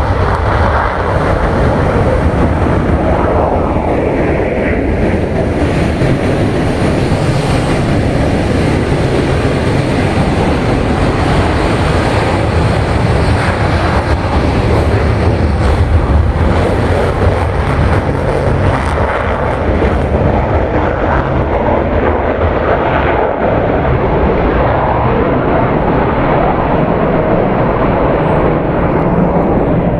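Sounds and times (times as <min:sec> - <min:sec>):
jet engines roaring: 0:00.0 - 0:29.9.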